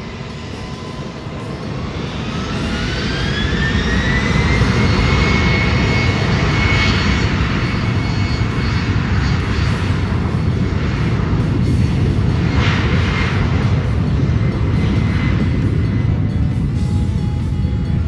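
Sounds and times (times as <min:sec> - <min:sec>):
jet engines at takeoff power: 0:00.0 - 0:18.0
rising engine whine: 0:00.0 - 0:18.0.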